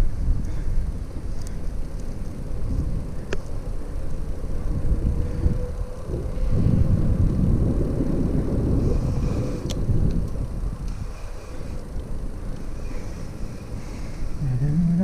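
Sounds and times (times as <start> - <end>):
bicycle rolling rumble: 0.0 - 15.0.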